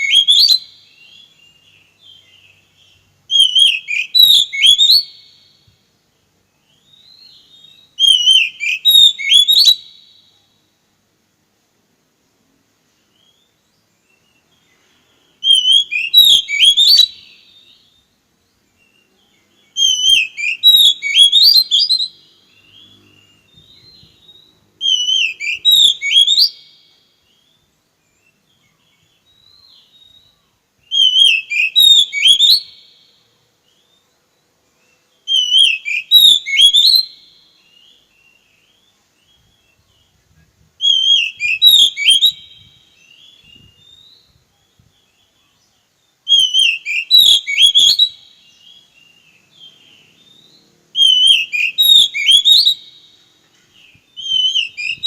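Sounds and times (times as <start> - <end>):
songbird whistling phrase: 0.0 - 5.7, 6.6 - 10.5, 13.0 - 33.1, 34.9 - 55.0.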